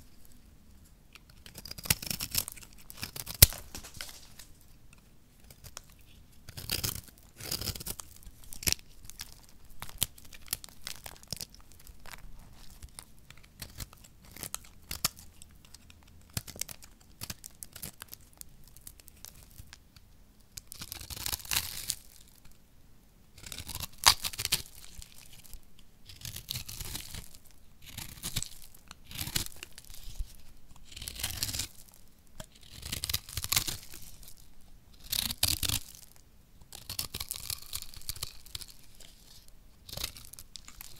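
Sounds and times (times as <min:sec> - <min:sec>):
knife scraping dry soap: 0:01.1 - 0:18.1, 0:23.4 - 0:40.9.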